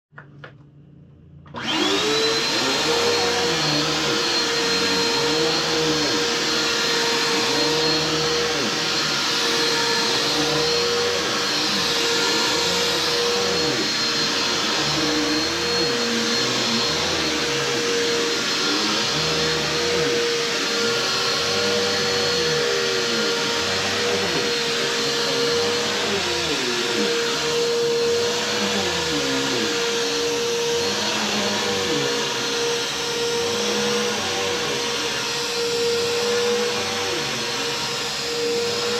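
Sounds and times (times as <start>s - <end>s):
vacuum cleaner running: 1.4s - 38.9s.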